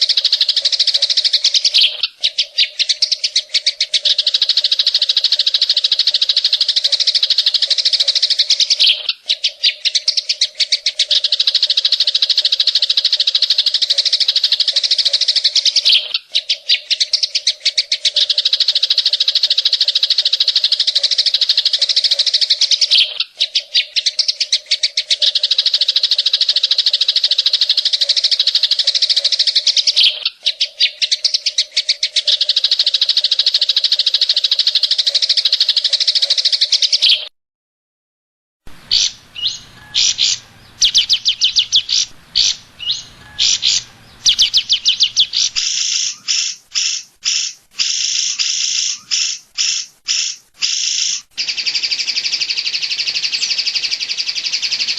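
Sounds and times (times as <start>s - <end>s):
bird singing harsh rapid trill: 0.0s - 37.3s, 38.8s - 54.9s.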